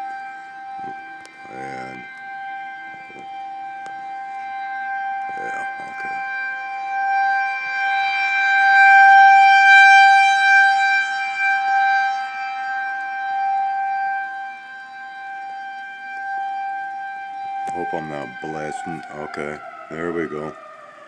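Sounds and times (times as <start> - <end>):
warning siren steady tone: 0.0 - 21.0.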